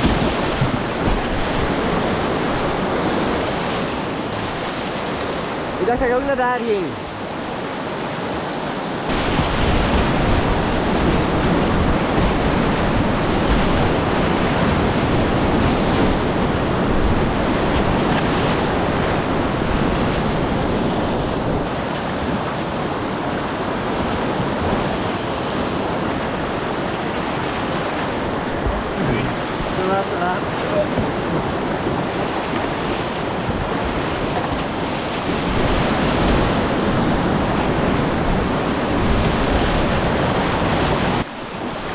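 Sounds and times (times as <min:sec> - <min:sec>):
wind buffeting microphone: 0:00.0 - 0:06.2, 0:09.0 - 0:41.9
river rapids rushing: 0:00.0 - 0:41.9.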